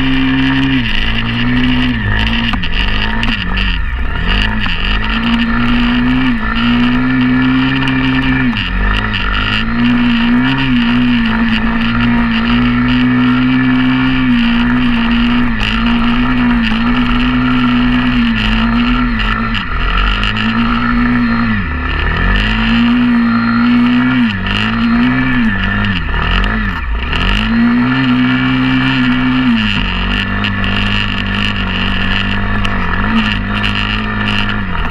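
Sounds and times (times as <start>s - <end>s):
pit bike engine running: 0.0s - 34.9s.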